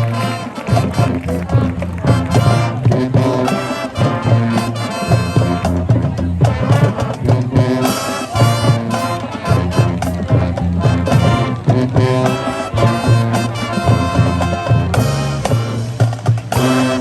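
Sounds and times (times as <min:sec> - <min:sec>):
brass playing: 0:00.0 - 0:17.0
drumline beat: 0:00.0 - 0:17.0.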